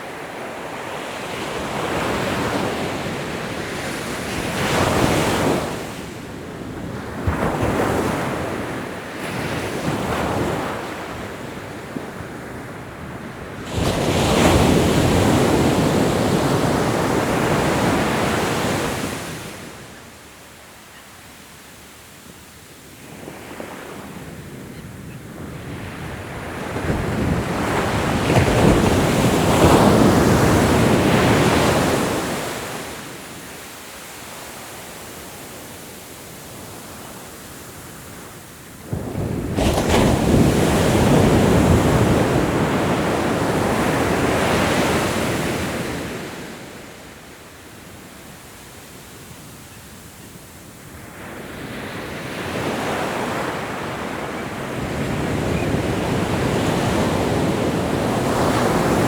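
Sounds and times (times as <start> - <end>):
ocean surf washing on shore: 0.0 - 20.2, 23.0 - 49.6, 50.5 - 59.0.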